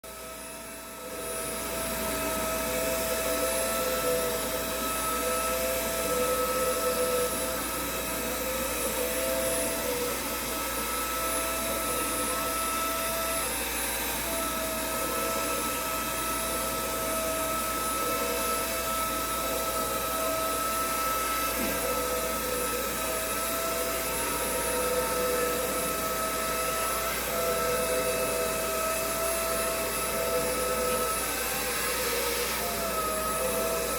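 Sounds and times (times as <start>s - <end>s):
window-cleaning robot fan whirring: 0.0s - 33.9s.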